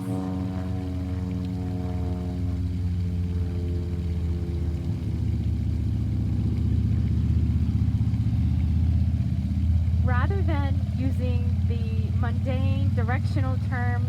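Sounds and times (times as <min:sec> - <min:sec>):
propeller airplane engine drone: 0:00.0 - 0:14.0.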